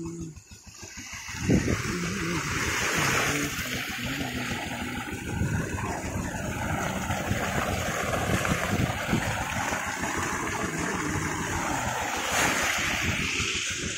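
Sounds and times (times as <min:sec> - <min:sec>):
water gushing from a hose: 0:00.0 - 0:13.9
water splashing into a channel: 0:00.0 - 0:13.9.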